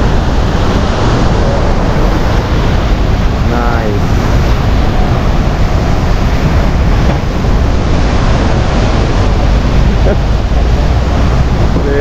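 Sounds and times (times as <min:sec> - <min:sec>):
waterfall rushing: 0:00.0 - 0:12.0
wind buffeting microphone: 0:00.0 - 0:12.0.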